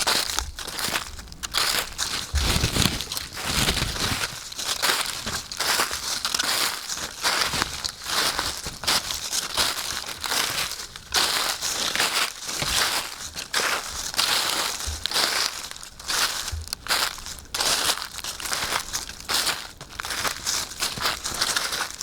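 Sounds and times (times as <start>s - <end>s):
footsteps crunching dry leaves: 0.0s - 22.0s.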